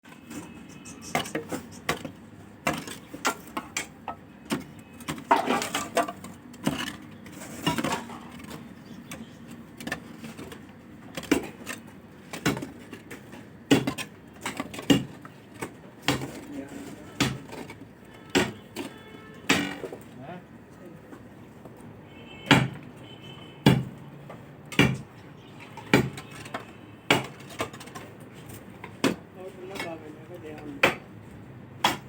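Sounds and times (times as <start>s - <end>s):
hard objects knocking and clattering: 0.2s - 20.2s, 23.7s - 31.2s.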